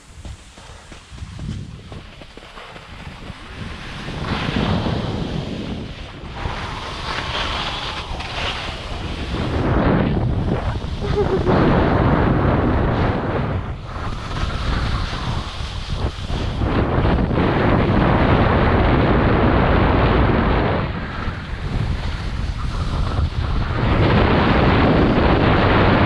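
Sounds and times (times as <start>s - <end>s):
skis carving on snow: 0.0s - 26.0s
wind buffeting microphone: 0.0s - 26.0s.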